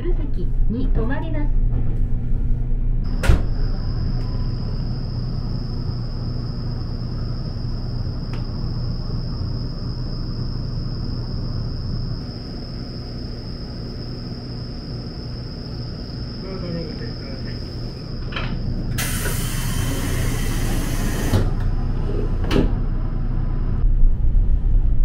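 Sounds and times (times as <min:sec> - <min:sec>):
low hum of stopped train: 0:00.0 - 0:25.0.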